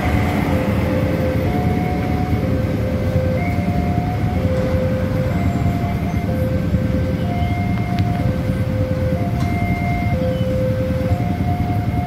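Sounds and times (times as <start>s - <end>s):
train wheels rumbling on rails: 0.0s - 12.0s
two-tone crossing warning alarm: 0.0s - 12.0s.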